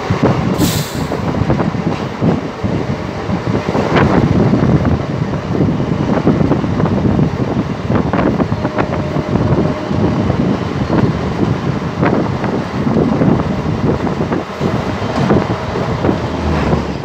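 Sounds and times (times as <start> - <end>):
train wheels rumbling on track: 0.0 - 17.0
wheels clanking over rail joints: 0.0 - 17.0
wind buffeting microphone: 0.0 - 17.0.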